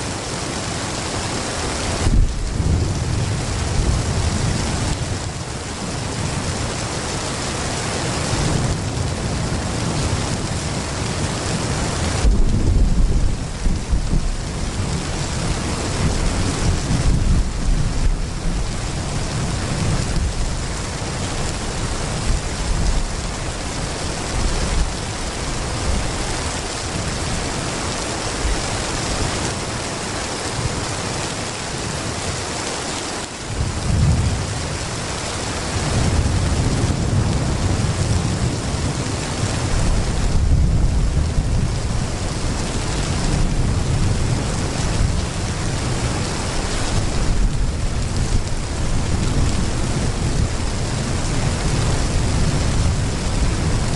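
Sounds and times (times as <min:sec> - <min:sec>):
heavy rain pouring: 0:00.0 - 0:53.9
low thunder rumbling: 0:01.4 - 0:29.8, 0:33.5 - 0:53.9.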